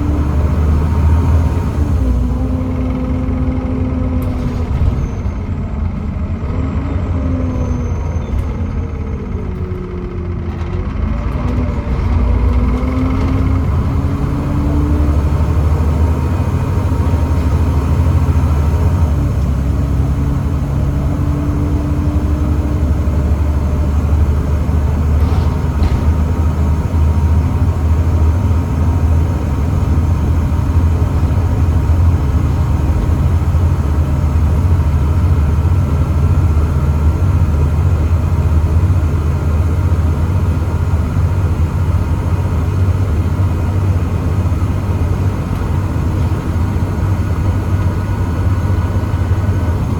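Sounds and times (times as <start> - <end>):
bus diesel engine droning: 0.0 - 49.9.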